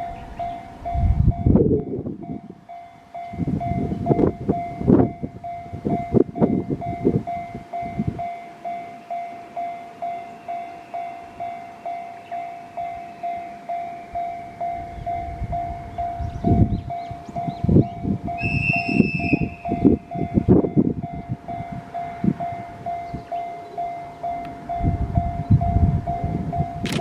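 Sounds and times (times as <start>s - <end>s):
level-crossing alarm bell ringing: 0.0s - 26.9s.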